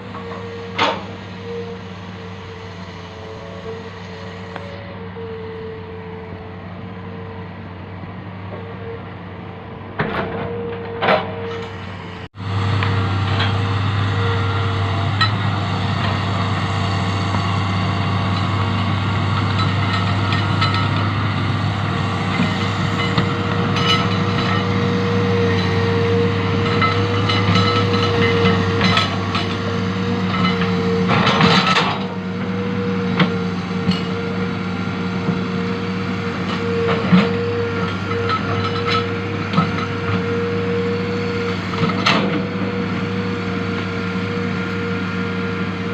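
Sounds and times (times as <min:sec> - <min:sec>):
engine whine: 0:00.0 - 0:45.9
excavator diesel engine running: 0:00.0 - 0:45.9.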